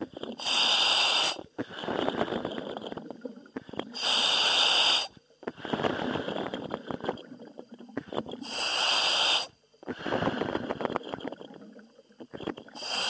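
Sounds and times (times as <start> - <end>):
regulator hiss on inhalation: 0.0 - 3.0, 3.6 - 11.6, 12.3 - 13.0
bubbling exhalations: 0.0 - 13.0.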